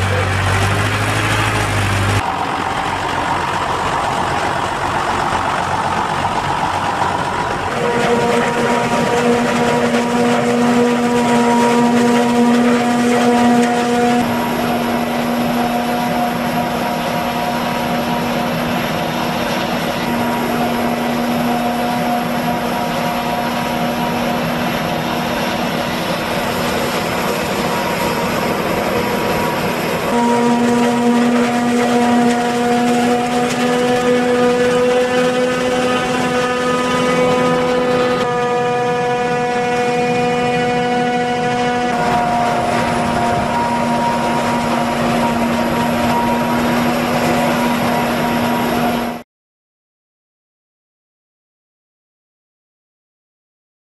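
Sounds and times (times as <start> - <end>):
forage harvester machine drone: 0.0 - 49.2.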